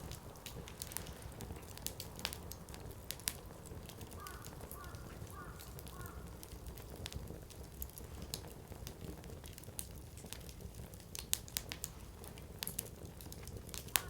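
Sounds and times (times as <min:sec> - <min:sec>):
fire rumbling: 0:00.0 - 0:14.0
firewood crackling and popping: 0:00.0 - 0:14.0.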